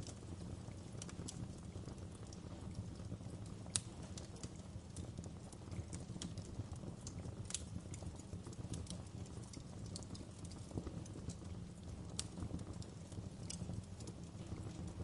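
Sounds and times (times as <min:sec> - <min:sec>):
fire burning rumble: 0:00.0 - 0:15.0.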